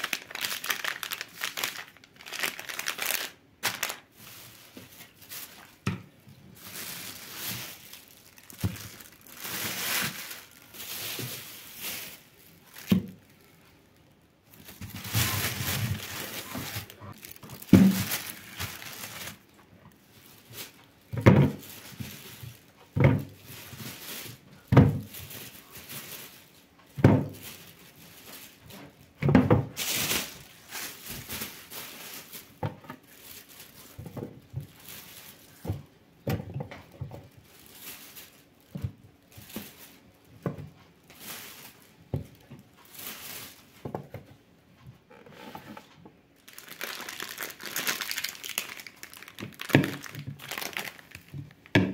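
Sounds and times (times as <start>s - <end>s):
plastic bags rustling: 0.0s - 44.4s, 45.1s - 51.9s.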